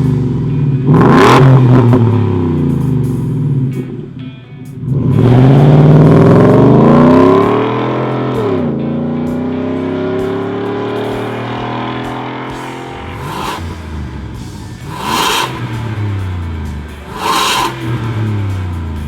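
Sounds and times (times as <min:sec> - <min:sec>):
truck engine revving: 0:00.0 - 0:04.0, 0:04.8 - 0:19.0
engine idling: 0:00.0 - 0:19.0.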